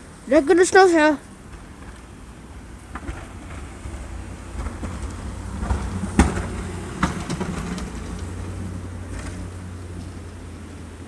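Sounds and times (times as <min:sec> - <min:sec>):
snowplow truck rumbling past: 0:00.0 - 0:11.0.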